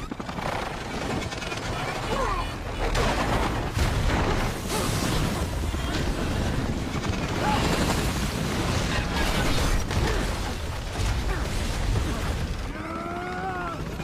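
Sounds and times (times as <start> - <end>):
heavy continuous rumble: 0.0 - 14.0.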